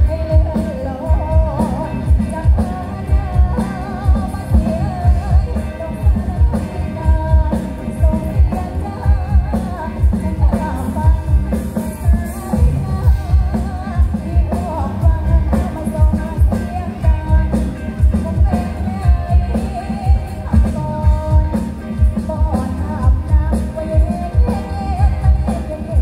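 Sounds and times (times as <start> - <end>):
pop song with heavy bass: 0.0 - 26.0.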